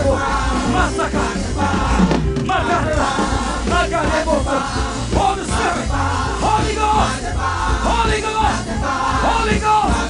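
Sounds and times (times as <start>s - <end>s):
church band playing: 0.0s - 10.0s
voices singing: 0.0s - 10.0s.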